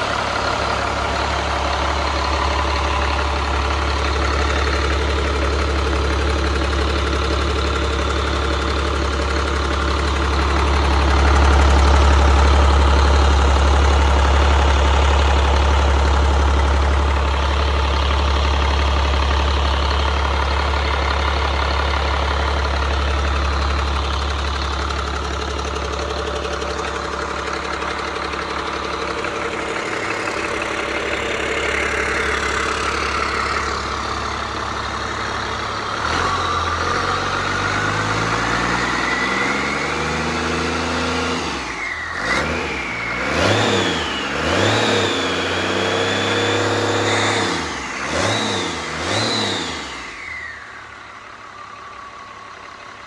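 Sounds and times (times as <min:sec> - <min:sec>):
diesel engine idling and revving: 0:00.0 - 0:53.0
turbocharger whine: 0:00.0 - 0:53.0.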